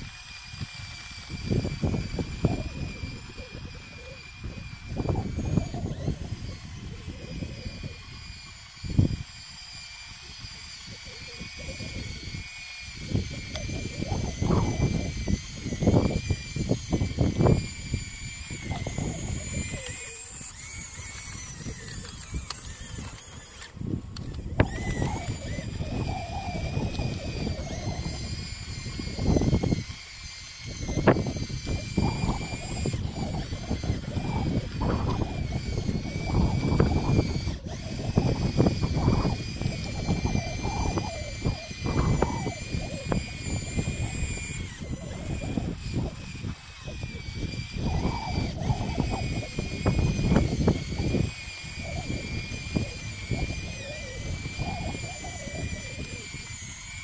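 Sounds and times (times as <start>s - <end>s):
toy bulldozer motors whining: 0.0s - 57.0s.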